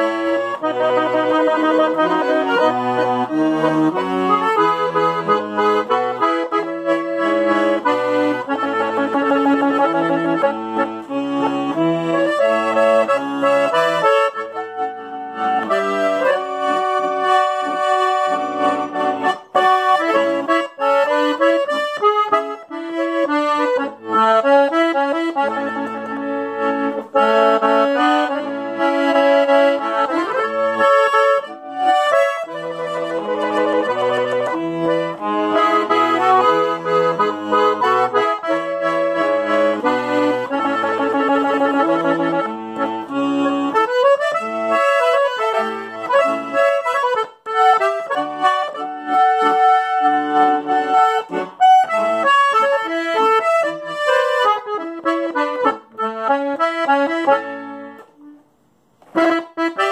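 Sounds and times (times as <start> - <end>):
piano accordion playing: 0.0 - 59.9.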